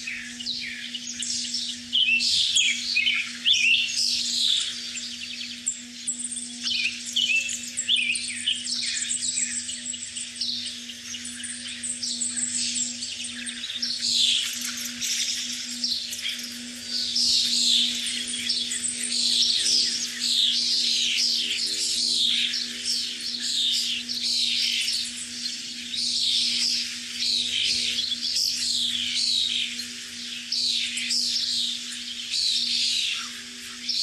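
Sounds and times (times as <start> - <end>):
birds chirping chorus: 0.0 - 34.0.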